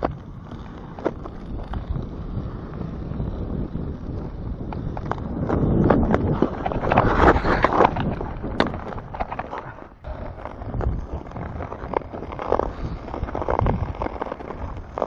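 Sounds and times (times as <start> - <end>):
ice skate blades scraping ice: 0.0 - 15.0
wind rumbling on microphone: 0.0 - 15.0.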